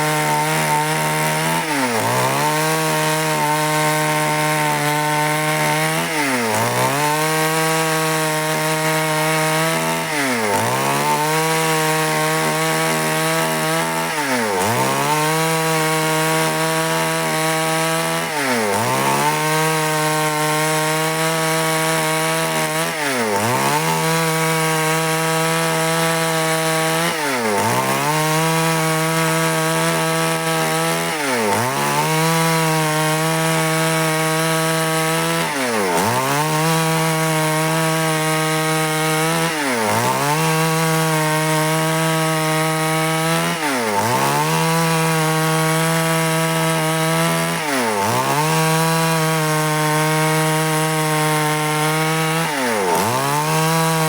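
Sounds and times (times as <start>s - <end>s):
chainsaw ripping through wood: 0.0s - 54.0s.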